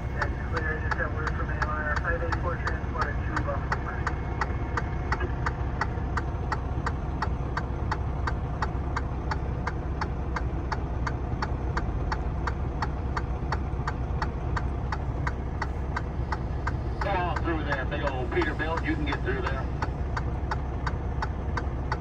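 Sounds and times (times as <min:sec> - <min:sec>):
regular ticking: 0:00.0 - 0:22.0
truck engine idling: 0:00.0 - 0:22.0.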